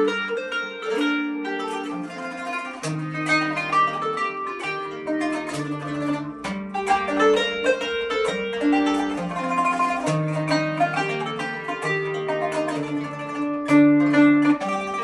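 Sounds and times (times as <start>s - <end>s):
plucked zither melody: 0.0s - 15.0s.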